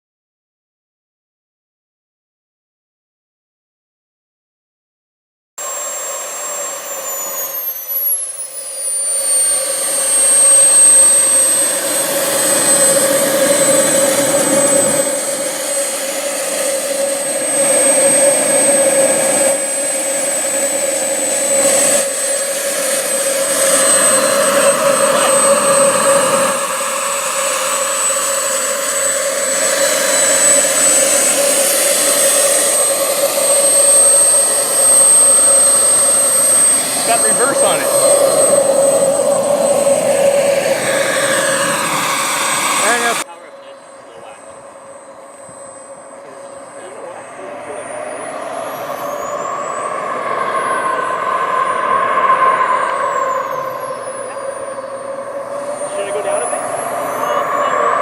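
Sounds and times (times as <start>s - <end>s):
jet turbine whine: 5.6s - 58.0s.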